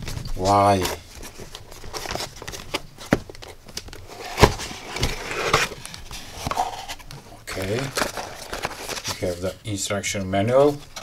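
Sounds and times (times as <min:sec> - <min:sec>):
cardboard and paper rustling: 0:00.0 - 0:11.0.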